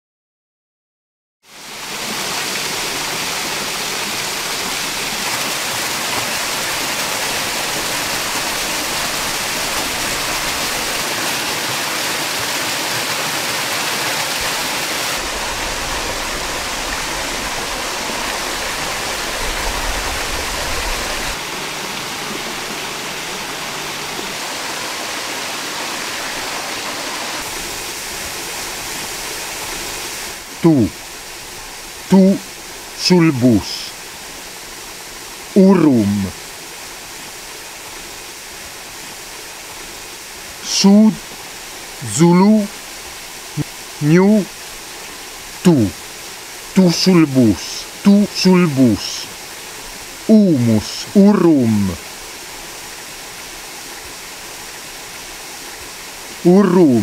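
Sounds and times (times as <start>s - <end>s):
waterfall splashing into pool: 1.5s - 57.0s.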